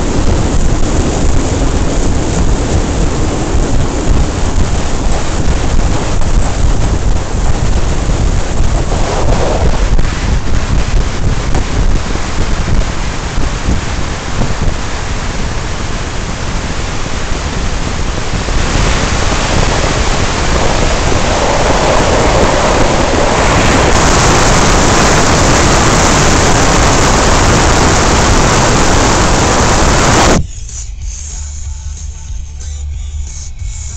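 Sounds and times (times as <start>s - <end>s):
wind buffeting microphone: 0.0s - 30.4s
road and tyre noise: 0.0s - 33.9s.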